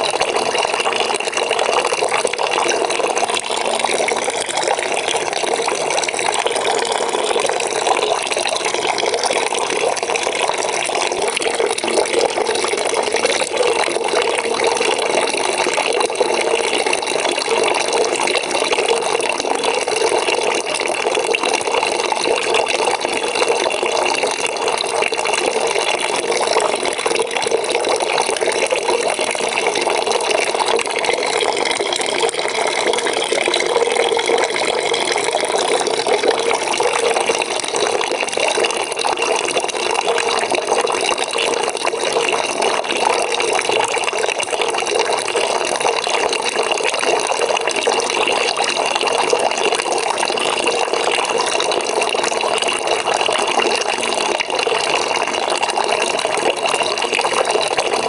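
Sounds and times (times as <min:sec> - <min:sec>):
water pouring into a bucket: 0:00.0 - 0:58.0.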